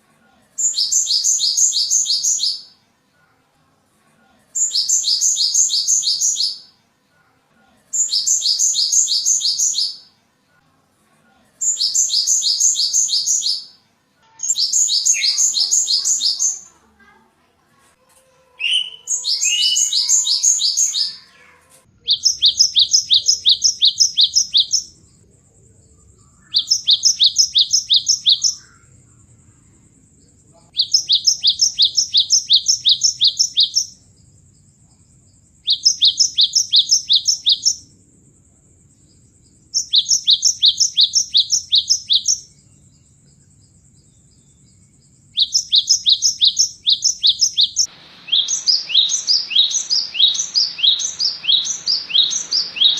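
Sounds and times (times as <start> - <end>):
bird song of repeated high notes: 0.6 - 2.8, 4.6 - 6.8, 7.9 - 10.2, 11.6 - 16.8, 18.6 - 29.0, 30.2 - 34.7, 35.3 - 37.9, 39.0 - 52.9.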